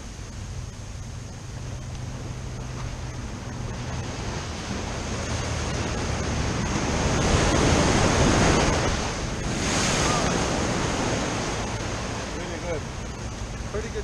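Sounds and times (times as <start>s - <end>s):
ocean surf against seawall: 0.0s - 14.0s.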